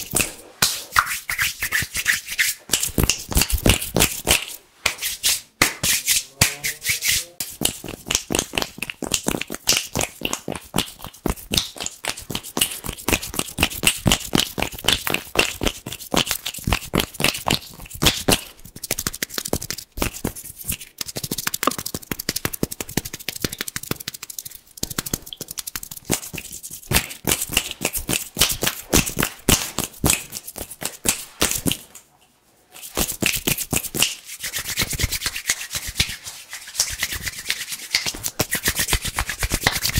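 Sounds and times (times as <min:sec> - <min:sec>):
hands rubbing together: 0:00.0 - 0:32.0, 0:32.7 - 0:39.9.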